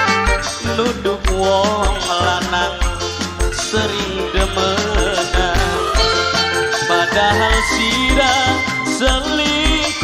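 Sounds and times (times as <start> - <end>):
band playing dance music: 0.0 - 10.0
thudding drum and bass beat: 0.0 - 10.0.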